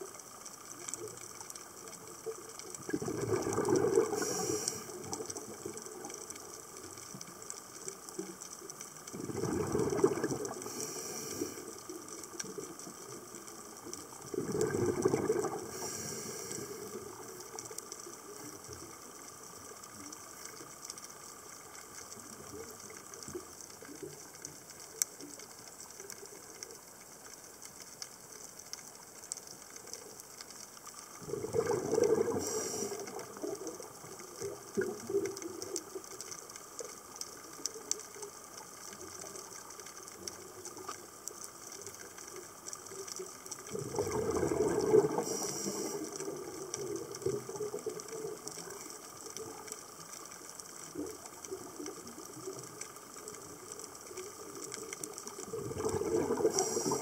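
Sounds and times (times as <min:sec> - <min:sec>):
faint crackling clicks: 0:00.0 - 0:57.0
scuba bubbles gurgling: 0:00.0 - 0:57.0.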